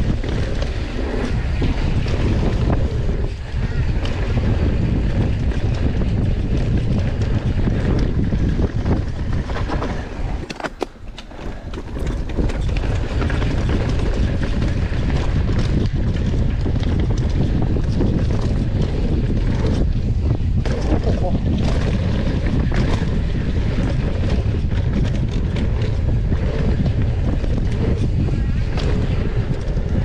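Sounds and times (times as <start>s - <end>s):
mountain bike rumble and rattle: 0.0s - 30.0s
wind buffeting microphone: 0.0s - 30.0s.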